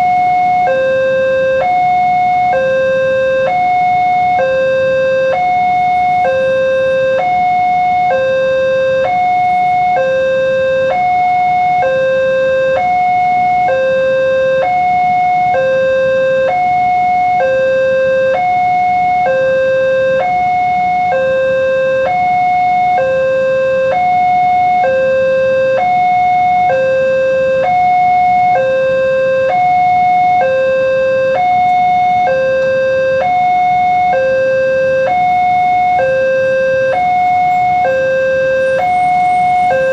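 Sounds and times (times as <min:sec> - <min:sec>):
level-crossing alarm two-tone warning: 0:00.0 - 0:39.9.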